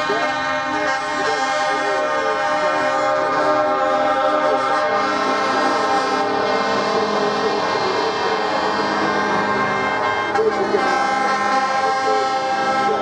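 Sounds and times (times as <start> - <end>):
truck air horns chord: 0.0 - 13.0.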